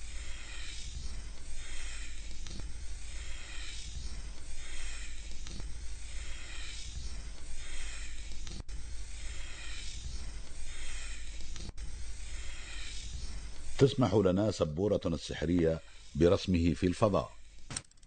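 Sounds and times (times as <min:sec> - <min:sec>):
chalk scraping on a blackboard: 0:00.0 - 0:17.6.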